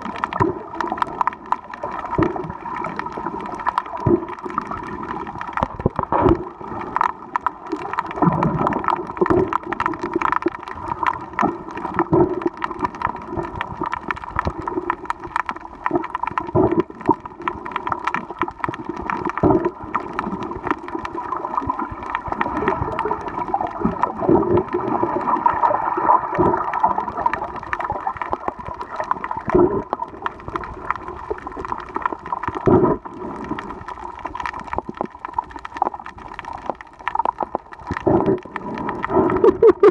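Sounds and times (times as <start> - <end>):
underwater clicks: 0.0 - 39.9
underwater water gurgling: 0.0 - 39.9.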